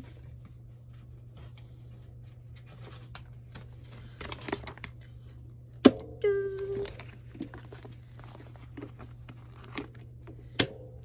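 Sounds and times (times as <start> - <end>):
plastic sleeves rustling: 0.0 - 5.4, 6.3 - 10.6
steady low hum: 0.0 - 11.0.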